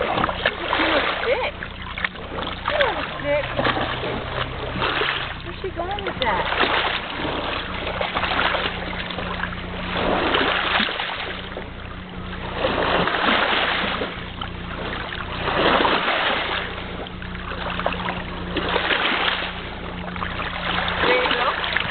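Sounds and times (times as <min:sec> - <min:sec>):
low hum: 0:00.0 - 0:21.9
water splashing and sloshing: 0:00.0 - 0:21.9.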